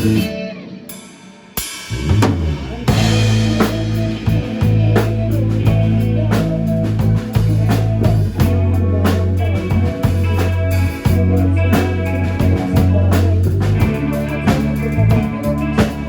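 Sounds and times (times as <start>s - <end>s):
bass guitar: 0.0s - 0.9s, 1.9s - 16.0s
drum kit beat: 0.0s - 16.0s
electric guitar: 0.0s - 16.0s.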